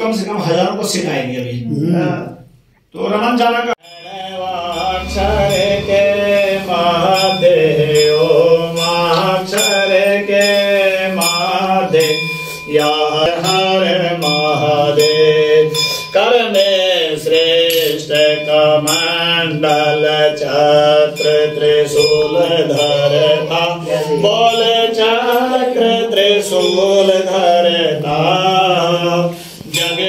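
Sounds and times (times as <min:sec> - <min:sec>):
man chanting: 0:00.0 - 0:30.0.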